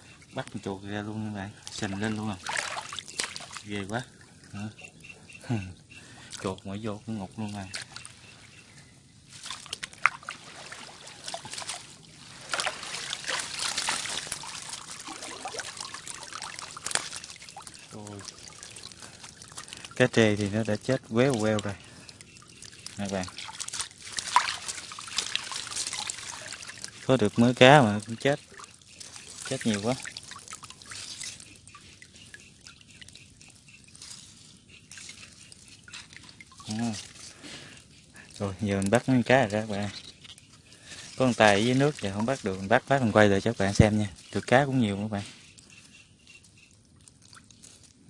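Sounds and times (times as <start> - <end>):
water draining off netting: 0.4 - 4.6, 9.3 - 40.0, 40.6 - 45.2
water splashing: 1.6 - 4.6, 9.3 - 45.8.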